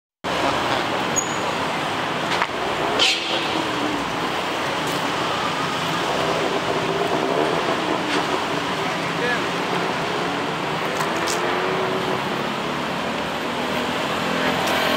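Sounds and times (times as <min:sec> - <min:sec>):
traffic noise: 0:00.2 - 0:14.9.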